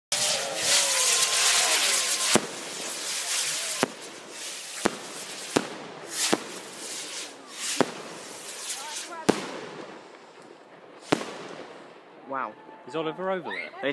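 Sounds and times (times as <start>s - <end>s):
fireworks hissing and whistling: 0.0s - 11.9s
fireworks bangs: 0.1s - 12.3s.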